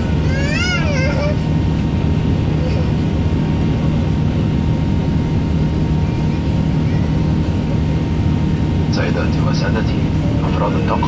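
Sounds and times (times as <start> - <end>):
jet engines rumbling: 0.0 - 11.0
steady low hum: 0.0 - 11.0.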